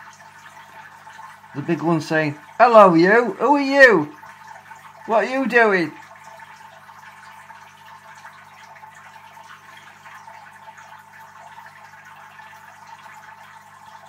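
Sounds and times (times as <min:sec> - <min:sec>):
faint drips: 0:00.0 - 0:14.0
water trickling: 0:00.0 - 0:14.0.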